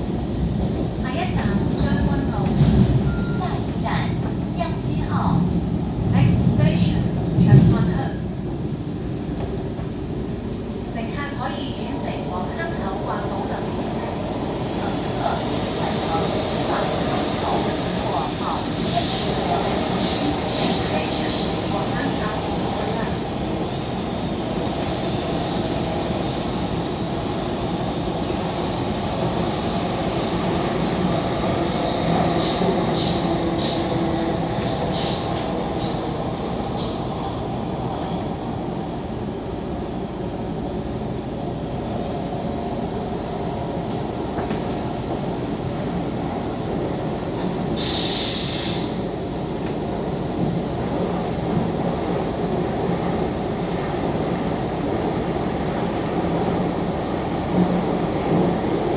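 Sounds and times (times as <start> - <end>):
train rumbling along track: 0.0 - 58.9.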